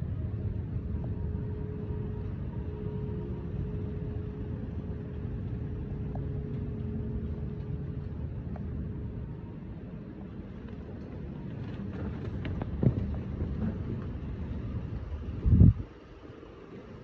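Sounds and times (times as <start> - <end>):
faint steady hum: 0.0 - 17.0
rainy street ambience rumble: 0.0 - 17.0.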